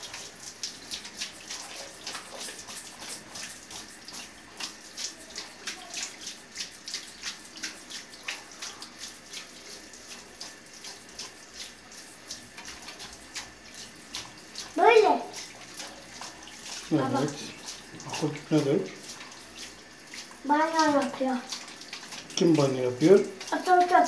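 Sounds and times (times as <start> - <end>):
shower water splashing: 0.0 - 24.0.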